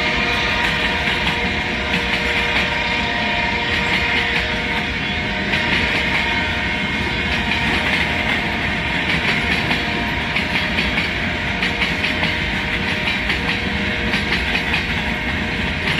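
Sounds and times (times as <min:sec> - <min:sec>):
freight train rumble and hiss: 0:00.0 - 0:15.9
train wheels clicking over track: 0:00.0 - 0:15.9.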